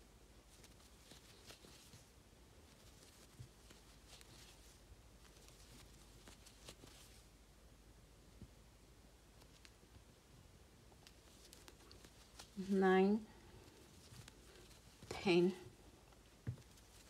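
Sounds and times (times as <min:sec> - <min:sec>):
yarn and crochet hook rustling: 0:00.0 - 0:07.4, 0:09.2 - 0:17.0.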